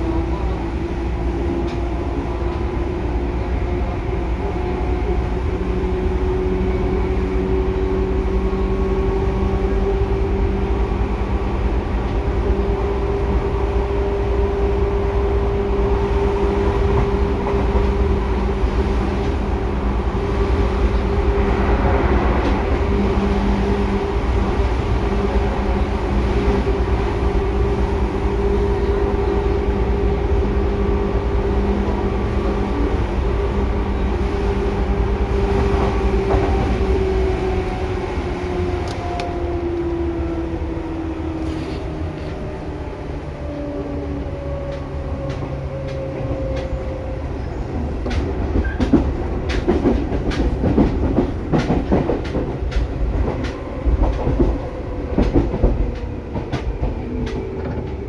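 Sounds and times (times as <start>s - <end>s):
electric train hum: 0.0s - 58.0s
train wheels rumbling on rail: 0.0s - 58.0s.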